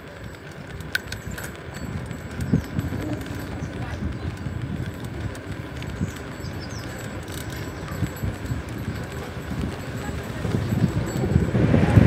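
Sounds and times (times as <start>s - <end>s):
bicycle rattles and clicks: 0.0s - 12.0s
wind rumbling on microphone: 0.0s - 12.0s.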